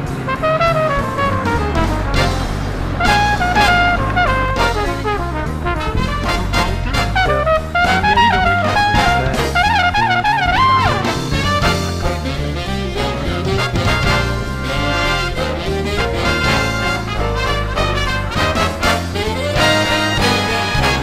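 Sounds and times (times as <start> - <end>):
upbeat jazz with brass melody: 0.0 - 21.0.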